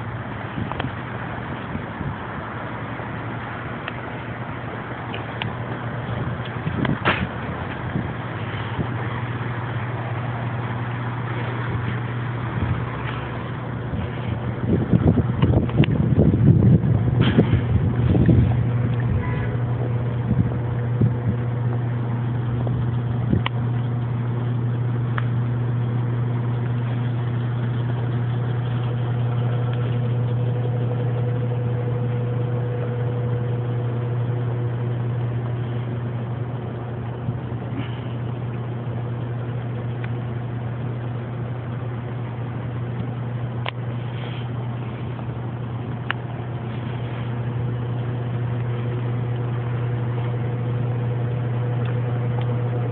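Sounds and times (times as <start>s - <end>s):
low mechanical hum: 0.0s - 52.9s.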